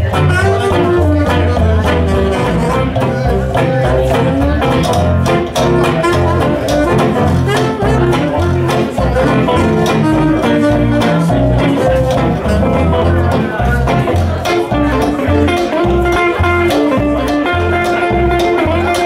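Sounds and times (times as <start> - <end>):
acoustic rhythm guitar: 0.0 - 19.0
lap steel guitar: 0.0 - 19.0
saxophone: 0.0 - 19.0
swing band playing: 0.0 - 19.0
upright bass: 0.0 - 19.0.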